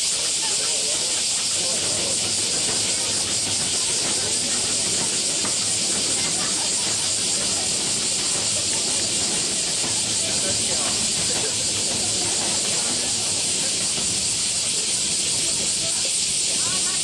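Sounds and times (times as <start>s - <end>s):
faint background murmur: 0.0s - 17.0s
high-pitched hiss: 0.0s - 17.0s.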